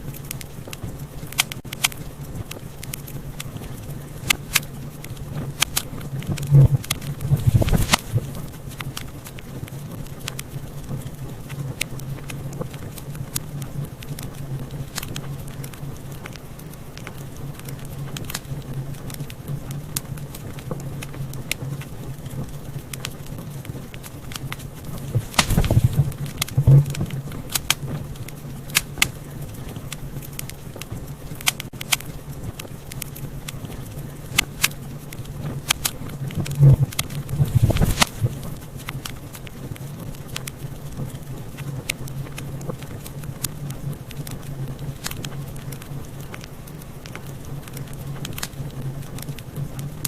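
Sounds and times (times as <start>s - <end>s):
low hum: 0.0s - 50.0s
wood fire crackling: 0.0s - 50.0s.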